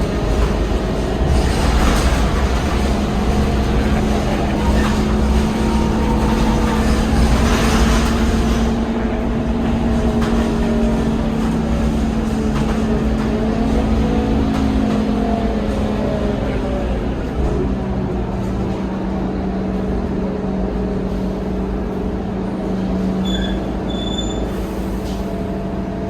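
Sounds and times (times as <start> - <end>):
bus engine hum with whine: 0.0 - 26.0
road noise: 0.0 - 26.0.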